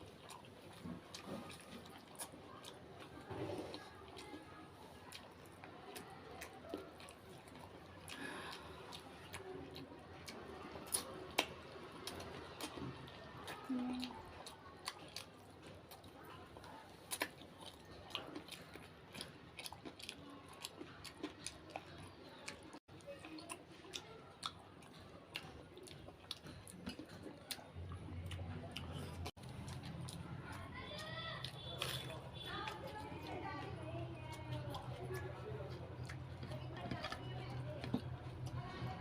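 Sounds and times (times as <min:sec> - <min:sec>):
chewing and crunching food: 0:00.0 - 0:39.0.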